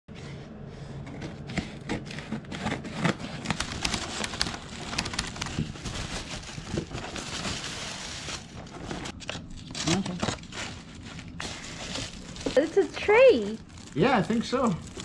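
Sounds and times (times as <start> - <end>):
paper and cardboard rustling: 0.2 - 15.0.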